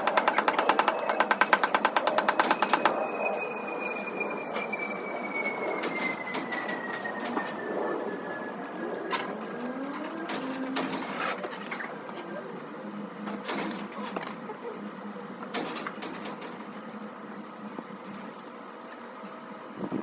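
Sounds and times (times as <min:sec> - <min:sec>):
faint falling whine: 0:00.2 - 0:18.5.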